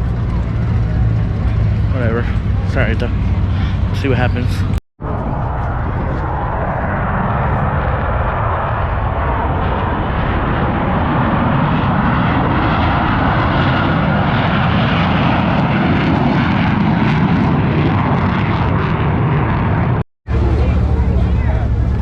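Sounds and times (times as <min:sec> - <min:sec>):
aircraft engine noise: 0:00.0 - 0:22.0.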